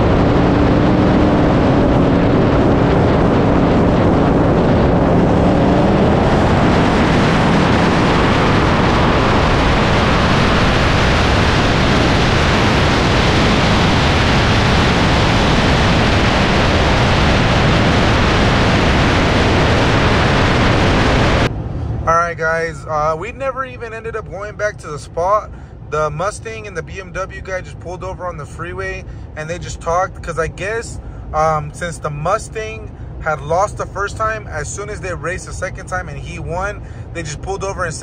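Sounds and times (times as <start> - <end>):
car engine drone: 0.0 - 38.0
wind rushing on microphone: 0.0 - 38.0.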